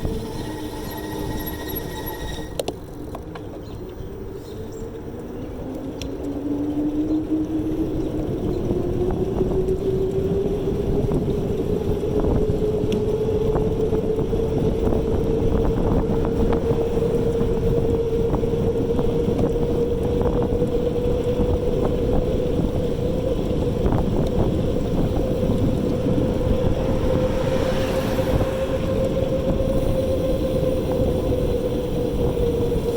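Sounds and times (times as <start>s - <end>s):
electric bike motor whining: 0.0s - 32.9s
road noise: 0.0s - 32.9s
wind rumble on microphone: 0.0s - 32.9s.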